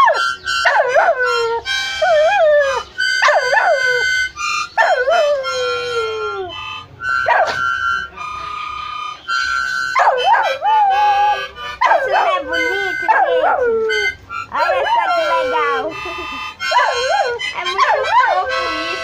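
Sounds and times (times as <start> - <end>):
dog howling: 0.0 - 7.7, 9.8 - 19.0
music with held notes and chords: 0.0 - 19.0.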